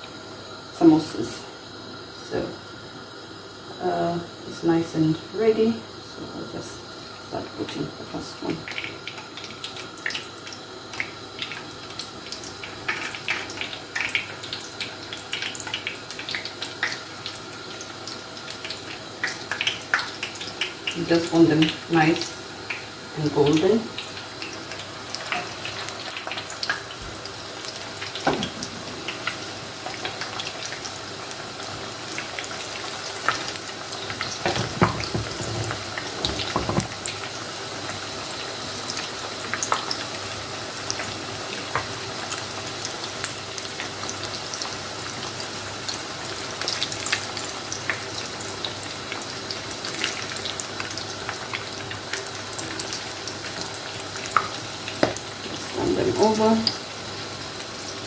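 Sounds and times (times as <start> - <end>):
oil bubbling and sizzling: 0.0 - 58.0.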